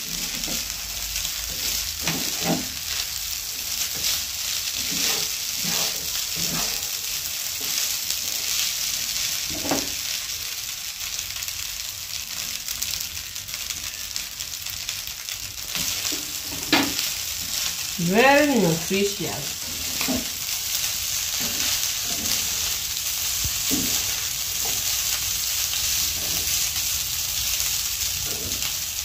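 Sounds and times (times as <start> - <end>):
fried rice sizzling in a frying pan: 0.0 - 29.0.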